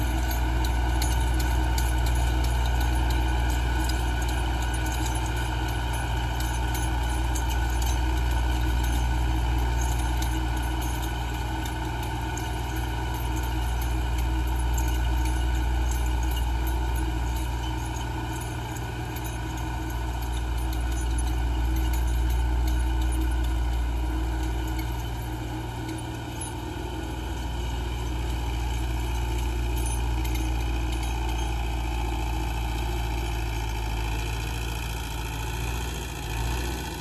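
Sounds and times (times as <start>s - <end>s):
light metallic clatter: 0.0s - 37.0s
tractor diesel engine under load: 0.0s - 37.0s.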